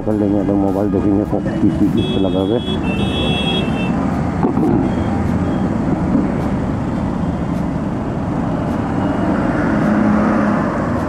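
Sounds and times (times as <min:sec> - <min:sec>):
surrounding cars: 0:00.0 - 0:11.0
tyre and road noise: 0:00.0 - 0:11.0.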